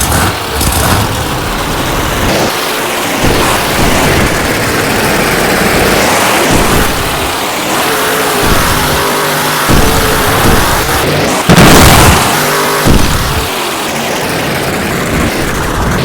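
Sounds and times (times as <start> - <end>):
loud rushing noise: 0.0 - 16.0
truck engine revving: 0.0 - 16.0.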